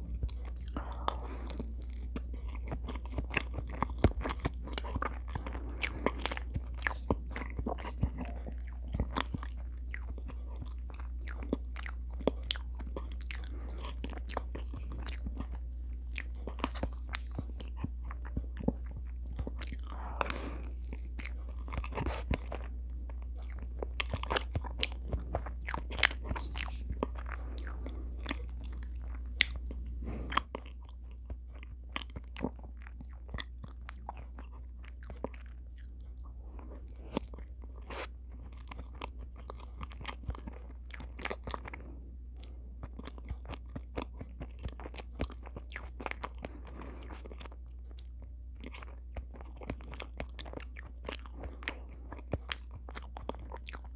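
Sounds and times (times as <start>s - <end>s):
mouth chewing clicks and smacks: 0.0s - 53.9s.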